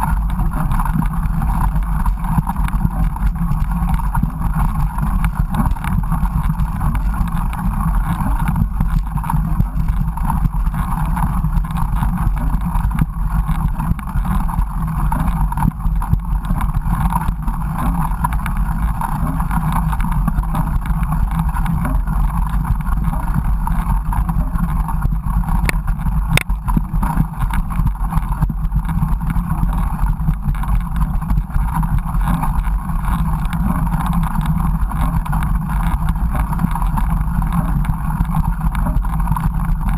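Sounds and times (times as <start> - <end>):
mountain bike rolling on trail: 0.0 - 39.9
wind rumble: 0.0 - 39.9.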